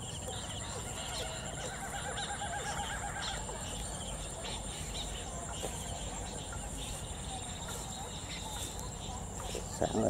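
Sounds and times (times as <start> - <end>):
bird trill: 0.0 - 8.7
birds calling: 0.0 - 10.0.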